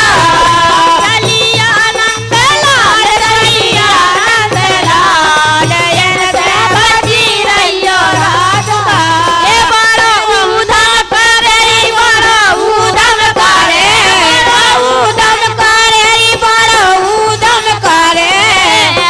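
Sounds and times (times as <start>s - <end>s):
hand drum: 0.0s - 19.0s
women singing folk song: 0.0s - 19.0s.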